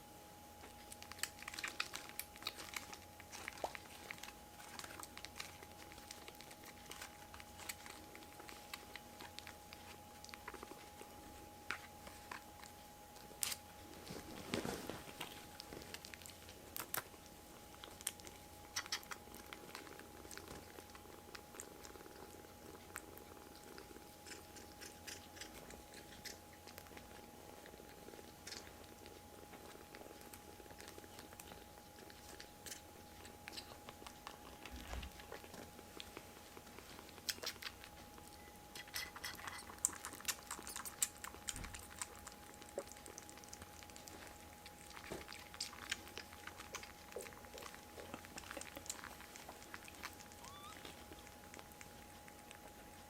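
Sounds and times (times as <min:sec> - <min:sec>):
kittens chewing: 0:00.0 - 0:53.0
steady thin hum: 0:00.0 - 0:53.0.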